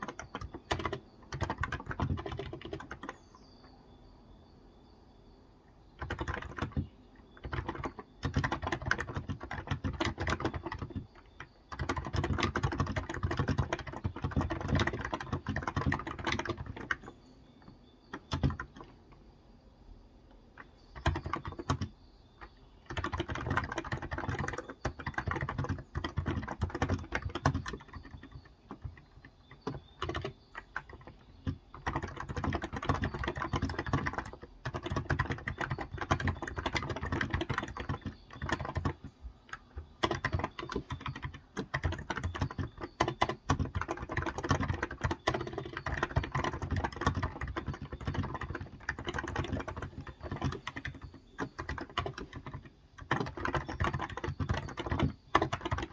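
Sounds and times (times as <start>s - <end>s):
keyboard typing: 0.0s - 3.4s, 6.0s - 19.3s, 20.3s - 55.9s.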